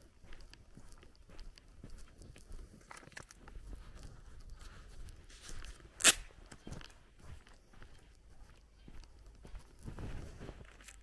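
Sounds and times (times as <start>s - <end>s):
footsteps on outdoor path: 0.0s - 11.0s.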